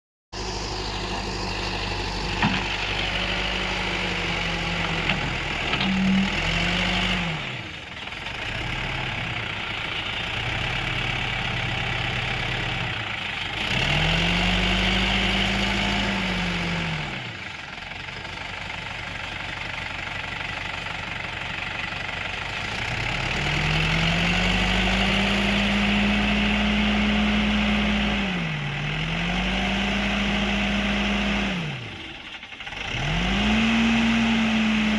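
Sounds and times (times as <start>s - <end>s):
backhoe diesel engine revving: 0.4s - 34.9s.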